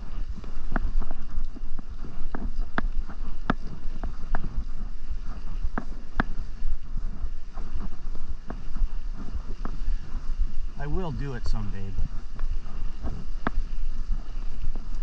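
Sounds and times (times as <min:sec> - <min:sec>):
low rumble: 0:00.0 - 0:15.0
wind rushing over microphone: 0:00.0 - 0:15.0.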